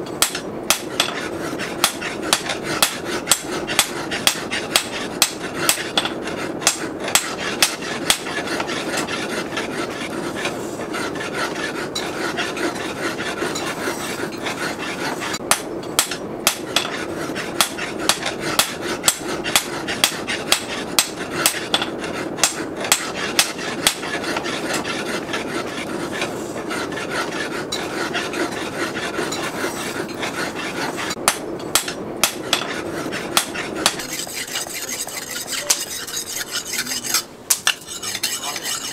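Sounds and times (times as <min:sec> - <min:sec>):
rasping and rubbing: 0:00.3 - 0:15.4, 0:16.5 - 0:31.2, 0:32.2 - 0:38.9.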